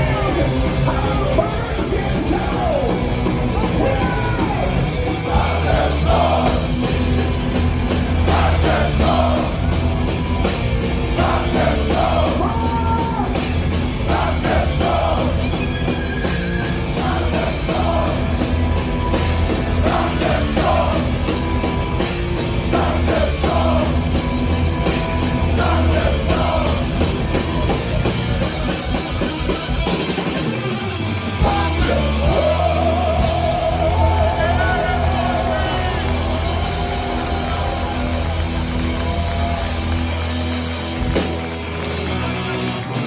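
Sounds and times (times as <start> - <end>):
distorted guitars: 0.0 - 43.0
drums: 0.0 - 43.0
heavy bass: 0.0 - 43.0.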